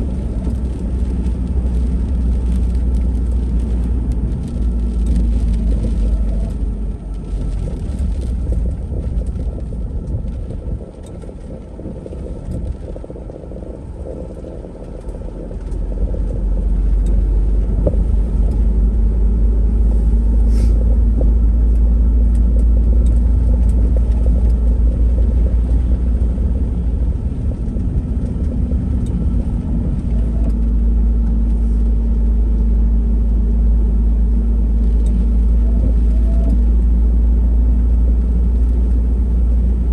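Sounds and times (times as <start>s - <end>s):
van engine and tyres rumbling: 0.0s - 39.9s.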